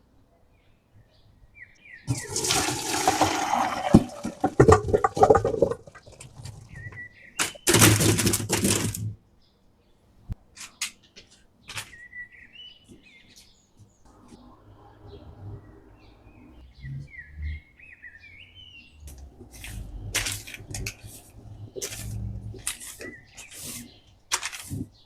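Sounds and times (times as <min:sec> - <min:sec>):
small birds chirping: 0:00.3 - 0:02.9, 0:05.4 - 0:07.8, 0:09.0 - 0:25.0.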